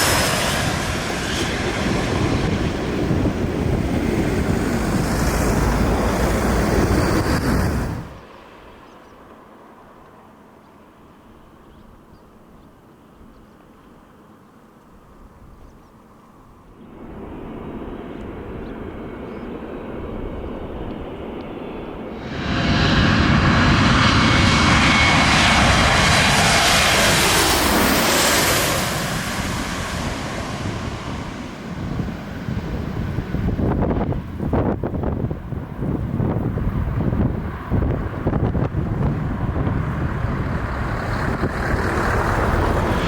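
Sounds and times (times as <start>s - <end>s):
airliner jet engines: 0.0s - 12.1s, 13.1s - 43.0s.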